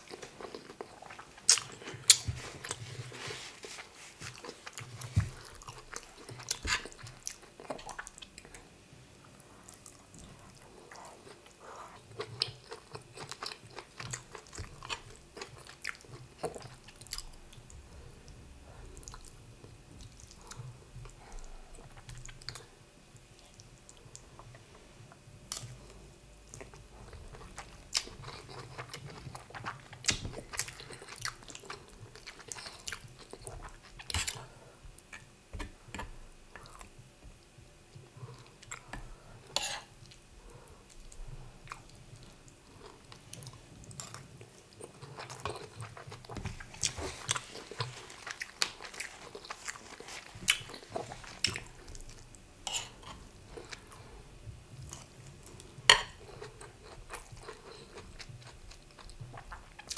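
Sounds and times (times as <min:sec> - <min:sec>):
close chewing of food: 0:00.0 - 0:22.7, 0:23.4 - 0:37.2, 0:37.9 - 0:59.9.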